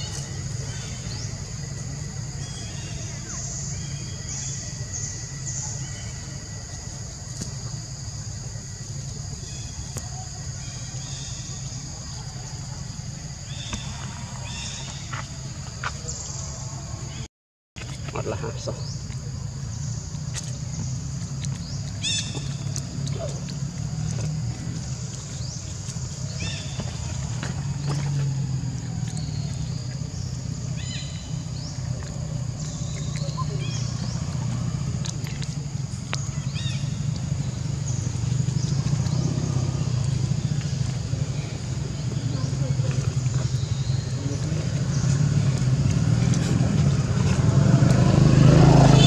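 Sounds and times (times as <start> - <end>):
low steady rumble: 0.0 - 17.3, 17.9 - 49.0
shrill insect chorus: 0.0 - 49.0
steady low hum: 0.0 - 49.0.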